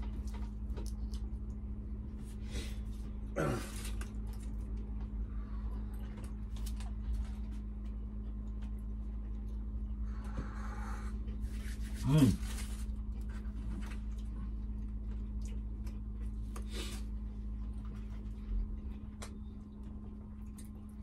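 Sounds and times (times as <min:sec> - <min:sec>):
clicks and rustles of eating: 0:00.0 - 0:10.5, 0:11.1 - 0:21.0
low hum: 0:00.0 - 0:21.0.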